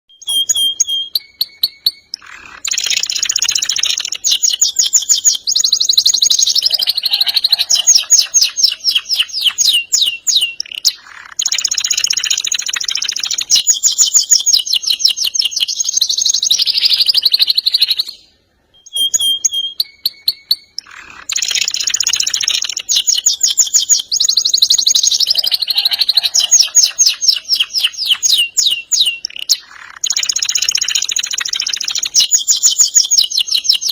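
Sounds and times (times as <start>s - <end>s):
canary singing fast trills: 0.1s - 33.9s.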